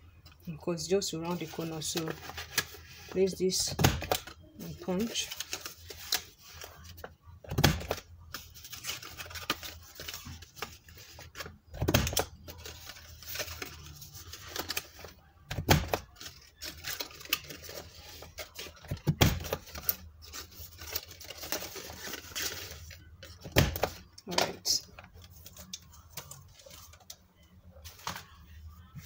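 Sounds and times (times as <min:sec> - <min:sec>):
cardstock rustling: 0:01.1 - 0:27.1.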